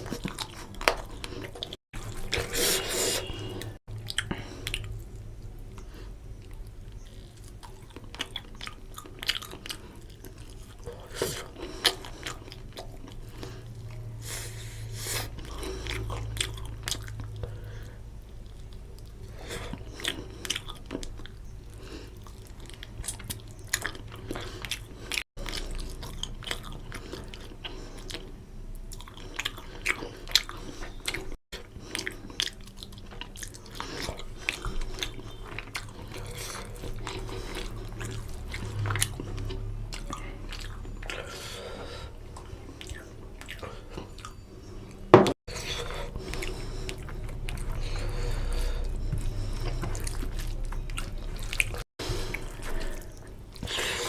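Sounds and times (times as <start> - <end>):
low steady hum: 0.0 - 54.0
person chewing and lip-smacking: 0.0 - 54.0.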